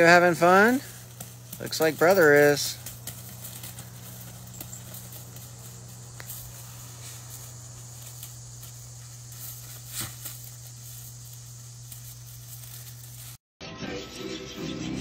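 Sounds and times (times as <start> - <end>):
paws scrabbling on gravel: 0.0 - 13.4
steady low hum: 0.0 - 13.4.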